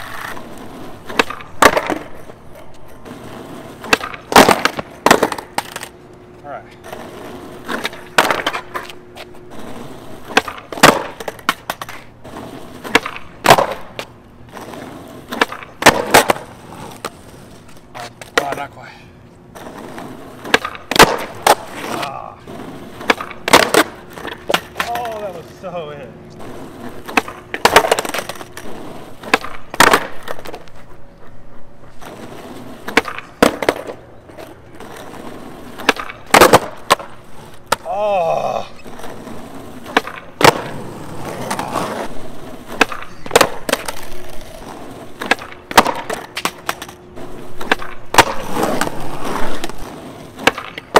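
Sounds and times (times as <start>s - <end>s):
skateboard deck slapping down: 0.0s - 5.9s, 6.9s - 18.6s, 19.6s - 25.5s, 26.4s - 30.8s, 32.0s - 50.9s
skateboard wheels rolling on asphalt: 0.0s - 50.9s.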